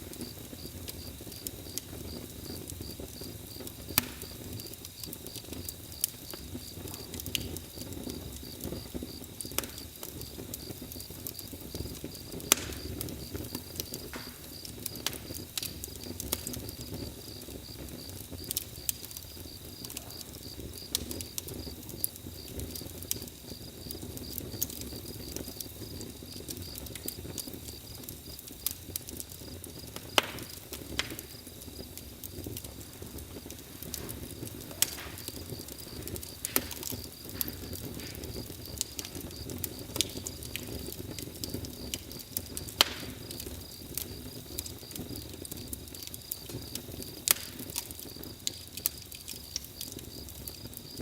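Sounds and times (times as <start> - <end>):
campfire crackling and popping: 0.0 - 51.0
cricket trill: 0.0 - 51.0.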